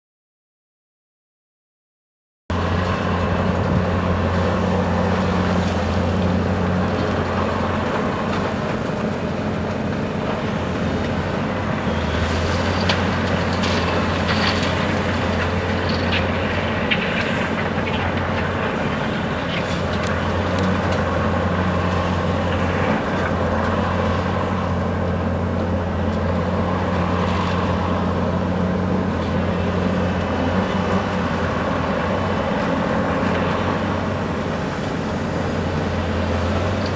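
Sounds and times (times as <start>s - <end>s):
excavator diesel engine running: 2.5s - 36.9s.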